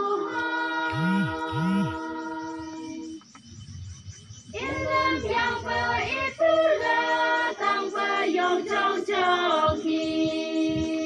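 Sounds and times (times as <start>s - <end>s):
women singing together: 0.0s - 3.2s, 4.5s - 11.0s.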